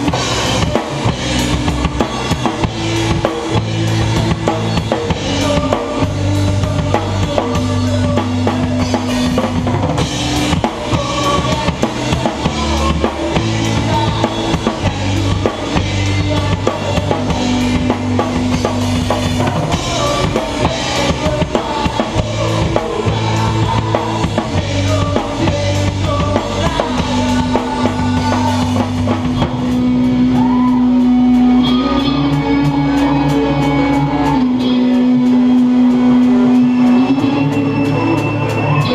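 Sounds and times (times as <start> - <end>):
drum kit: 0.0 - 38.9
loud rock music: 0.0 - 38.9.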